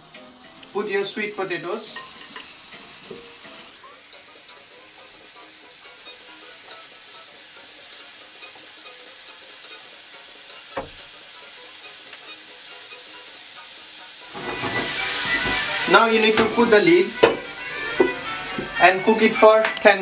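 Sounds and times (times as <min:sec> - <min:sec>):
sweet potato sizzling in a frying pan: 0:00.0 - 0:20.0.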